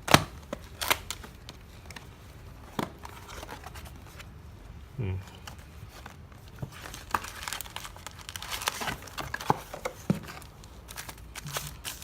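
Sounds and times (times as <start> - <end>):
plastic packaging crinkling and tearing: 0.0 - 4.3, 5.4 - 12.0.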